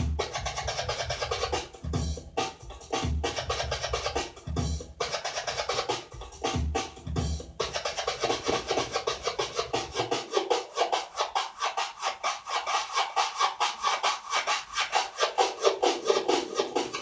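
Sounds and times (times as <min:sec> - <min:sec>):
turntable scratching over a beat: 0:00.0 - 0:17.0.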